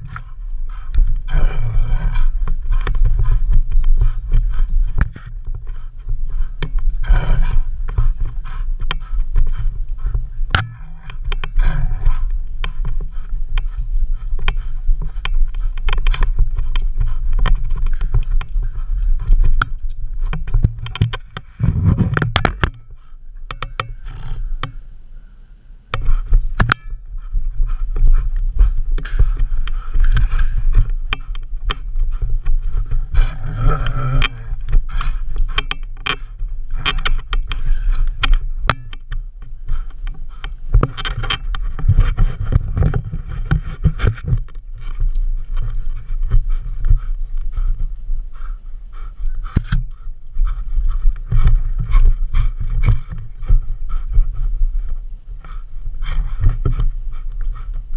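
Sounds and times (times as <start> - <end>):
camera knocking and rattling: 0.0 - 24.8, 25.9 - 47.6, 49.4 - 57.9
low rubbing rumble: 0.0 - 57.9.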